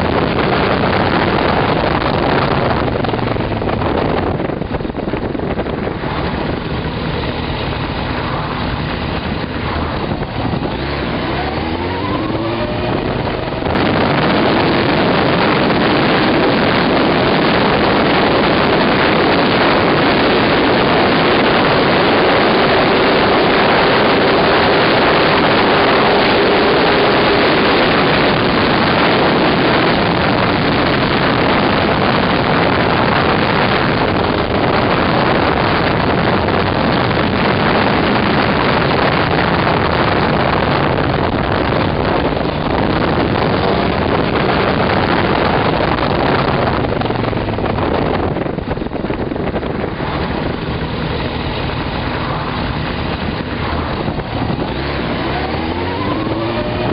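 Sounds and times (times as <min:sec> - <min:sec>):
motorcycle engine: 0:00.0 - 0:56.9
wind rush over microphone: 0:00.0 - 0:56.9.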